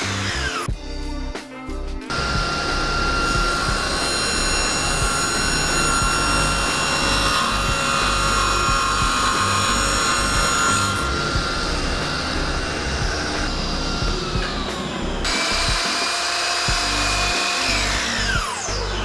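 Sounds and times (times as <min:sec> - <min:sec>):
power saw cutting wood: 0:00.0 - 0:00.7, 0:02.1 - 0:19.0.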